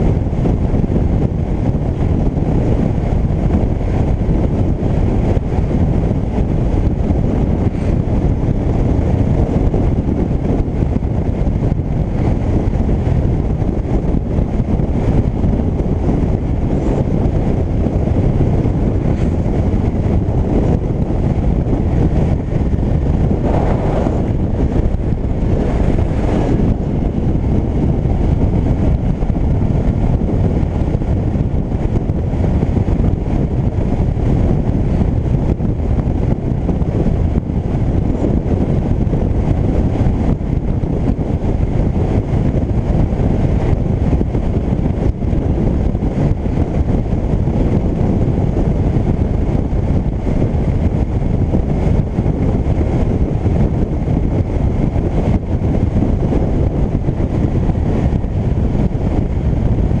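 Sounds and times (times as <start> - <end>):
motorcycle engine cruising: 0.0 - 60.0
wind buffeting microphone: 0.0 - 60.0.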